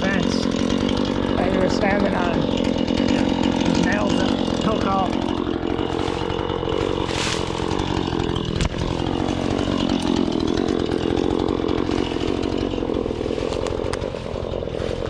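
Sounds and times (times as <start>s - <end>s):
chainsaw running: 0.0s - 15.0s.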